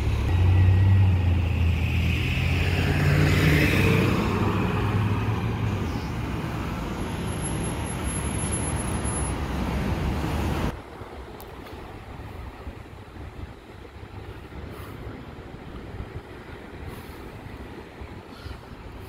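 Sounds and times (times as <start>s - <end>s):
bus engine drone: 0.0s - 18.2s
road traffic noise: 0.0s - 19.0s.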